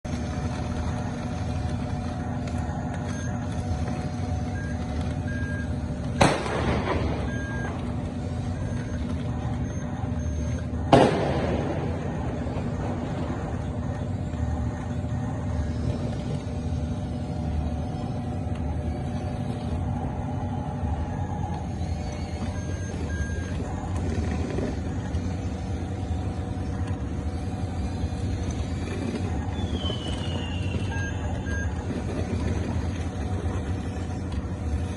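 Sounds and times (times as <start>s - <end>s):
model bulldozer mechanical drone: 0.0s - 34.9s
high reversing beeps: 0.1s - 34.9s.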